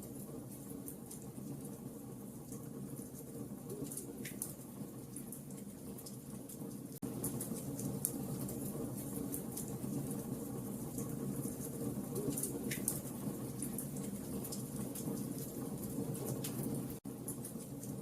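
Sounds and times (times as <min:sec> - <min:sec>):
bonfire crackling: 0:00.0 - 0:18.0.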